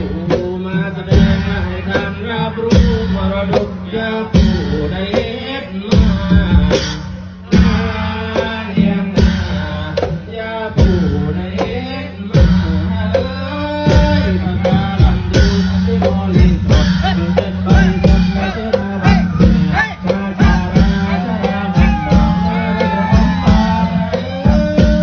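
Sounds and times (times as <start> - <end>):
drum strikes: 0.0 - 25.0
person singing folk song: 0.0 - 25.0.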